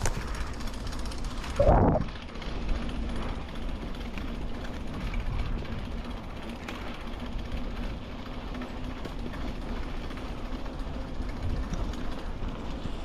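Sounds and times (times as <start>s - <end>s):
bicycle rolling: 0.0s - 13.0s.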